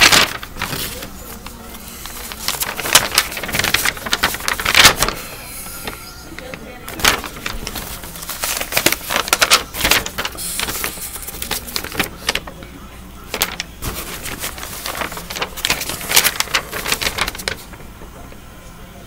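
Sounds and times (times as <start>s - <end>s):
paper rustling and crinkling: 0.0s - 18.5s.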